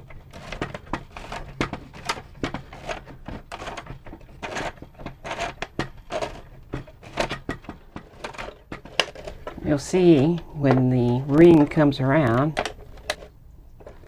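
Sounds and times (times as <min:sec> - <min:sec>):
low steady hum: 0:00.0 - 0:14.0
plastic parts clicking and tapping: 0:00.0 - 0:14.0.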